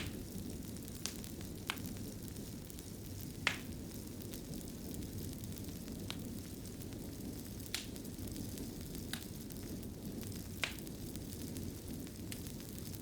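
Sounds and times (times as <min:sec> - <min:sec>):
fire crackling: 0:00.0 - 0:13.0
sharp pops of burning wood: 0:00.0 - 0:13.0
fire flames rushing: 0:00.1 - 0:13.0.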